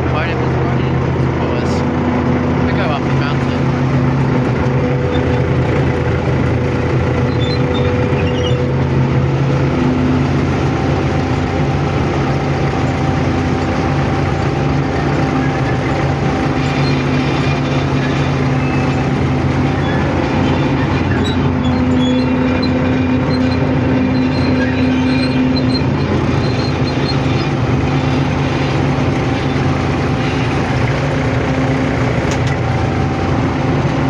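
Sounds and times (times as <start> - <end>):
diesel locomotive engine droning: 0.0 - 34.0
train running on rails: 0.0 - 34.0.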